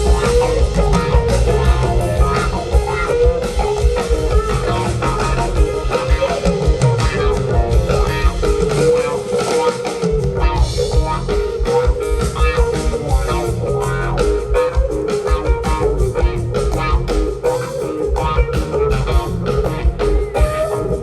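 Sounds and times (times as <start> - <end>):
bass guitar: 0.0 - 21.0
drums: 0.0 - 21.0
electric guitar: 0.0 - 21.0.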